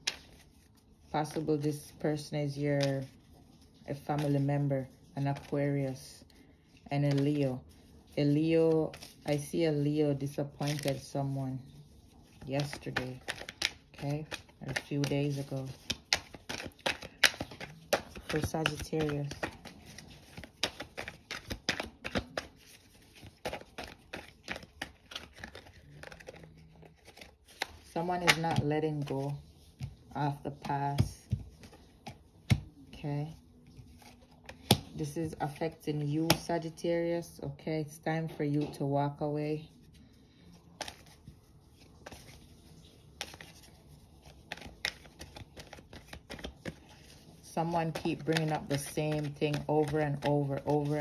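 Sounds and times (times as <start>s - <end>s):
cards being shuffled: 0.0s - 36.8s, 40.3s - 51.0s.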